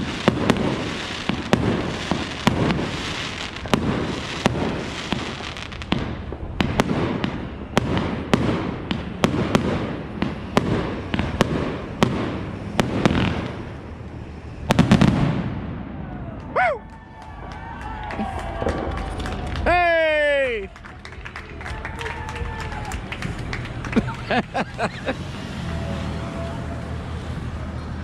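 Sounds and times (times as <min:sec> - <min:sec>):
fireworks crackle: 0:00.0 - 0:15.8, 0:17.4 - 0:27.3
fireworks bangs: 0:00.0 - 0:26.8.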